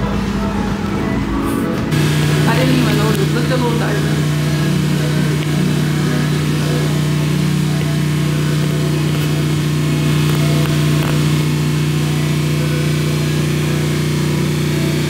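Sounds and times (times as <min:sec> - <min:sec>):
air pump humming: 0:00.0 - 0:15.0.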